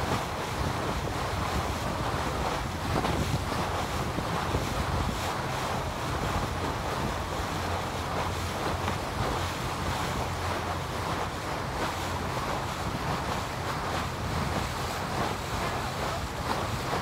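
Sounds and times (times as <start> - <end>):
boat engine hum: 0.0 - 17.0
water rushing past hull: 0.0 - 17.0
wind buffeting microphone: 0.0 - 17.0.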